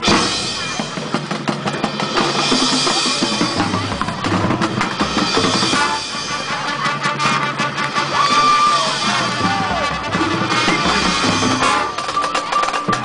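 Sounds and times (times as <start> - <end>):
marching band playing: 0.0 - 13.0
marching drums: 0.0 - 13.0.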